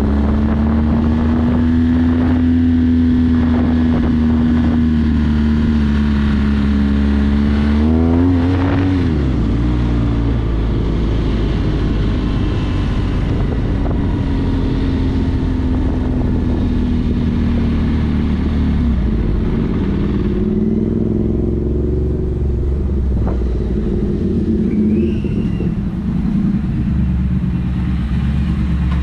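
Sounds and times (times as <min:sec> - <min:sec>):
wind noise on microphone: 0:00.0 - 0:26.9
motorcycle engine running: 0:00.0 - 0:29.0.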